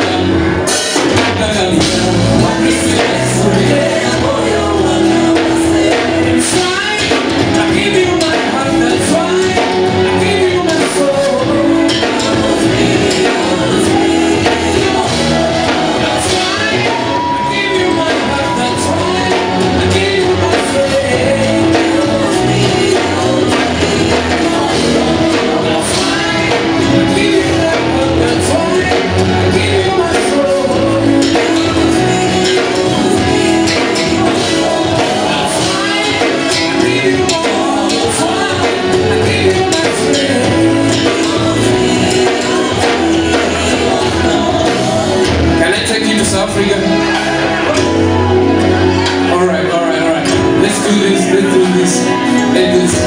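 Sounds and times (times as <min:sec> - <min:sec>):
instrumental accompaniment with beat: 0:00.0 - 0:53.0
vocalists singing together: 0:00.0 - 0:53.0.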